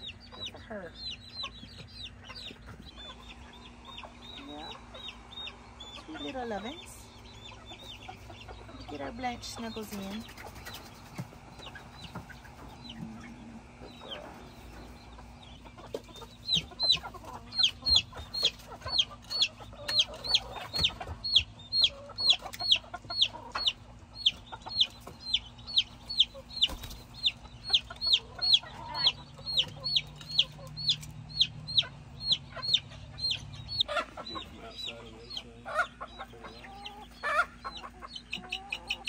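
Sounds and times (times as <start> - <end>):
chick peeping loudly: 0.0 - 39.0
hen clucking: 0.0 - 39.0.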